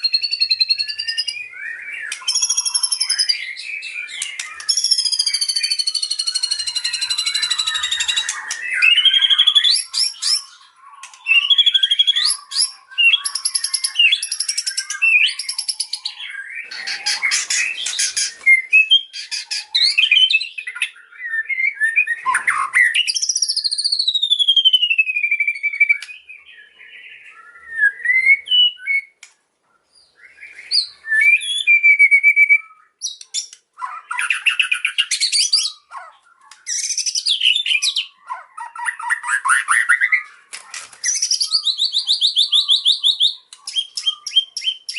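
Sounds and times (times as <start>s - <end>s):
bird singing trills and whistles: 0.0s - 44.9s.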